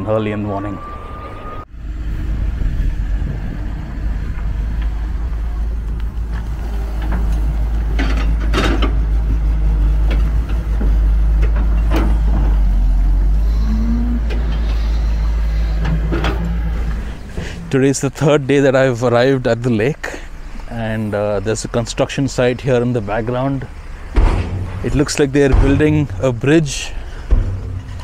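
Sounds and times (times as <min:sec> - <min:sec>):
excavator diesel engine rumbling: 0:00.0 - 0:28.0.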